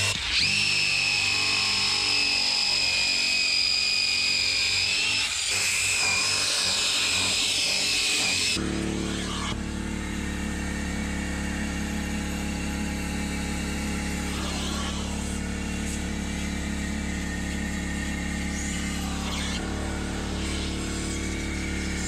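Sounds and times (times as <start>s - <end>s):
vacuum motor running: 0.0s - 22.0s.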